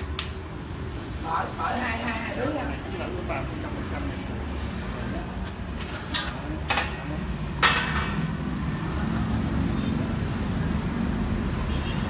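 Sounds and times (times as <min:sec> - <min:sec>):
street traffic rumbling: 0:00.0 - 0:12.0.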